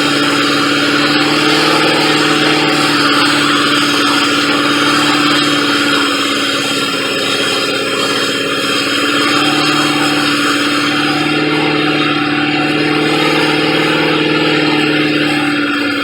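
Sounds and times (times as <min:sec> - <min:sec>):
car engine hum: 0:00.0 - 0:16.0
intake hiss: 0:00.0 - 0:16.0.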